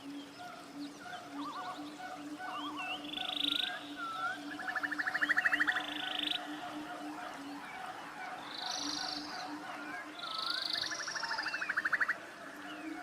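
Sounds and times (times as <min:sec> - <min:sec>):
birds trilling and chirping: 0:00.0 - 0:13.0.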